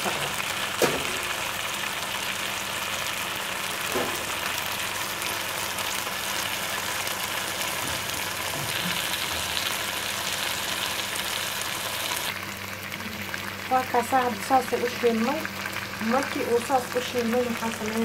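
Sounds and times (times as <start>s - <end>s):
chicken sizzling in a pot: 0.0s - 18.0s.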